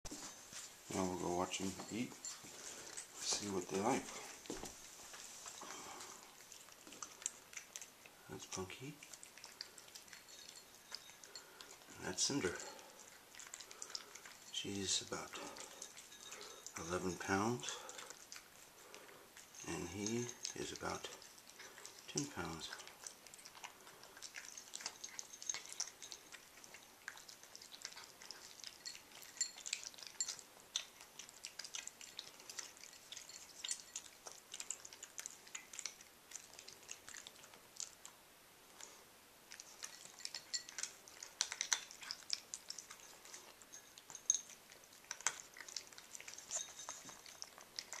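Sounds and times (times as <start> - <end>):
cats crunching dry kibble: 2.3 - 48.0.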